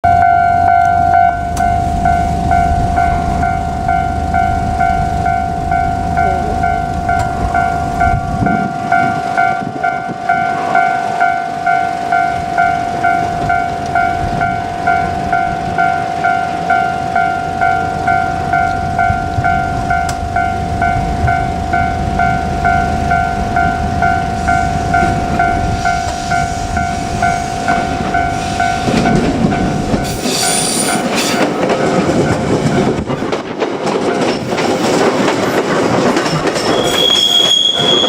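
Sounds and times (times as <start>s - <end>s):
level crossing warning bell: 0.0s - 35.0s.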